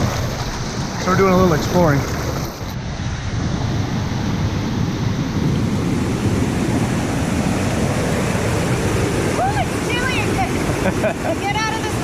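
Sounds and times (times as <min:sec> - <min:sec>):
rushing river water: 0:00.0 - 0:12.0.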